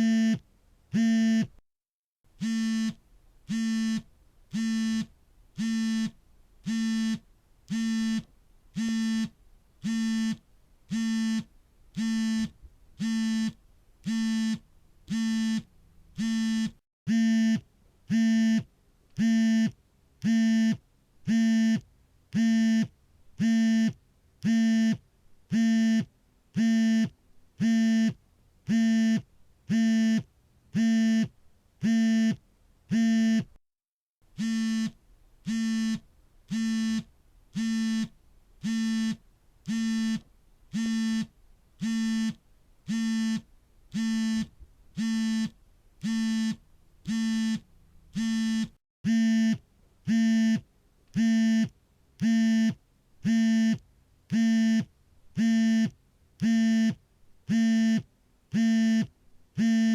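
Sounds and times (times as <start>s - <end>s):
phone vibrating buzzes: 0.0s - 0.4s, 1.0s - 1.6s, 2.4s - 21.8s, 22.4s - 33.6s, 34.3s - 59.9s.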